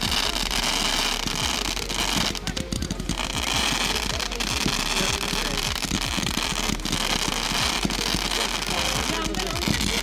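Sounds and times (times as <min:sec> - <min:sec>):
firework bang: 0:00.0 - 0:10.0
fireworks crackling and popping: 0:00.0 - 0:10.0.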